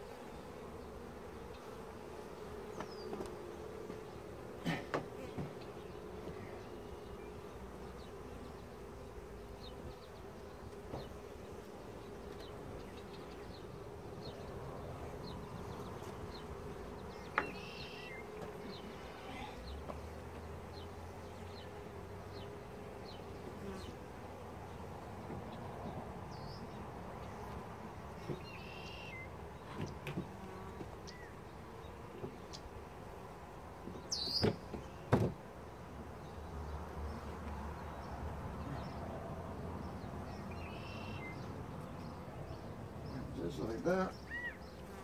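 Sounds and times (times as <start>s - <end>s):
honeybees humming: 0.0s - 45.0s.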